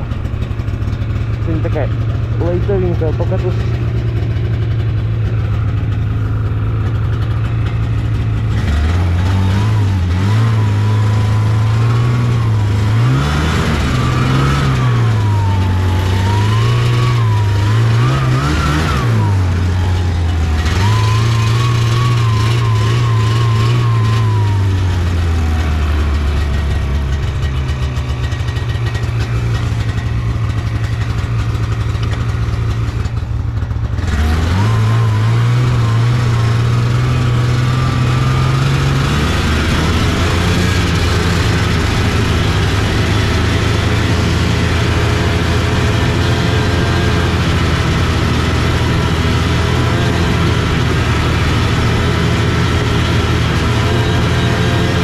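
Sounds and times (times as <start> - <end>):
snowmobile engine revving: 0.0 - 55.0
thin engine whine: 0.0 - 55.0.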